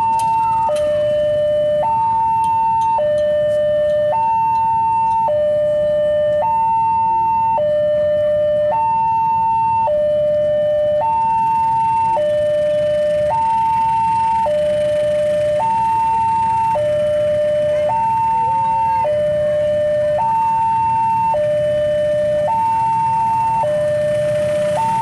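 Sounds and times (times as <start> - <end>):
diesel locomotive rumble: 0.0 - 25.0
two-tone electronic warning alarm: 0.0 - 25.0.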